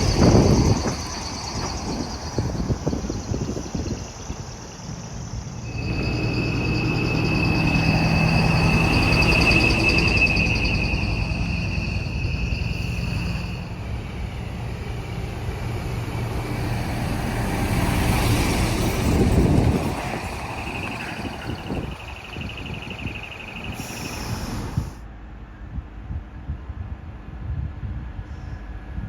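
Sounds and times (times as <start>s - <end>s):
steady high trill: 0.0s - 24.8s
diesel trucks driving past: 0.0s - 26.4s.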